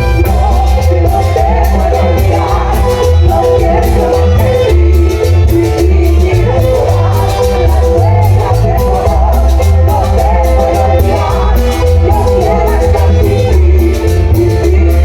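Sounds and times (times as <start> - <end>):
latin dance band playing: 0.0 - 15.0.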